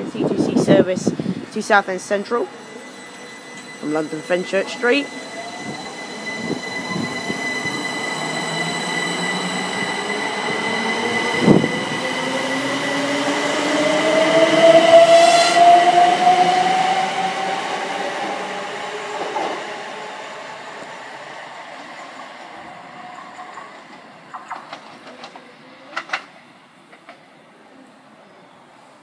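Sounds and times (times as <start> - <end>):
electric train traction whine: 1.0 - 24.2.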